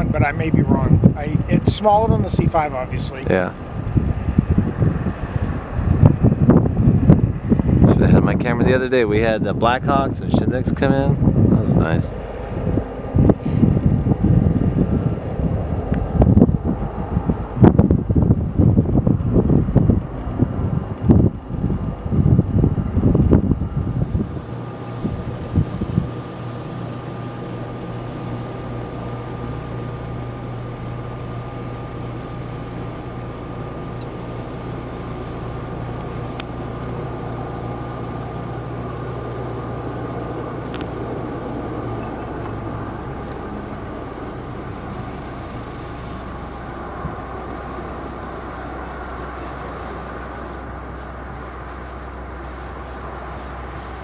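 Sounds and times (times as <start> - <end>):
jet engines whining: 0.0 - 54.0
wind buffeting microphone: 0.0 - 54.0.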